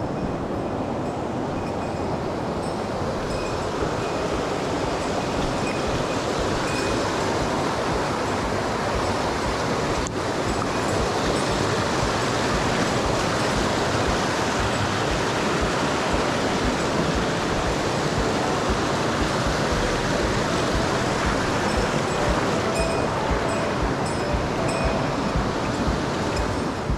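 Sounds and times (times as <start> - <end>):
stream rushing over rocks: 0.0 - 26.9.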